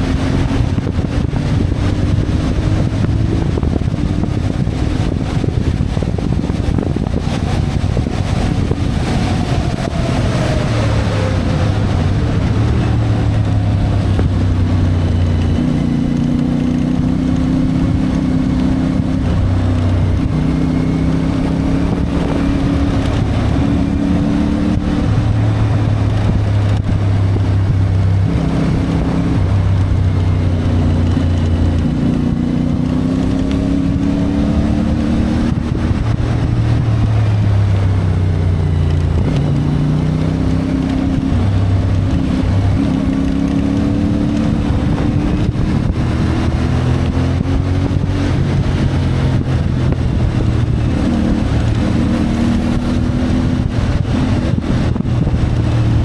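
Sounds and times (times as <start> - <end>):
motorcycle engine accelerating: 0.0 - 56.0
wind on microphone: 0.0 - 56.0.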